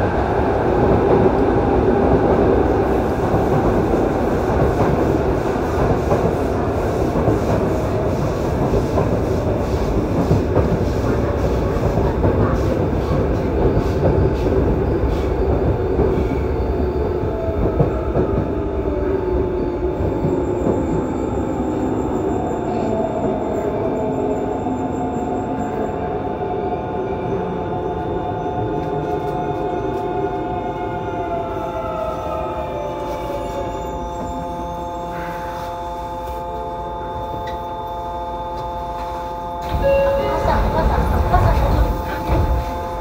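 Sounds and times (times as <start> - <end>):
subway train rumbling on rails: 0.0 - 43.0.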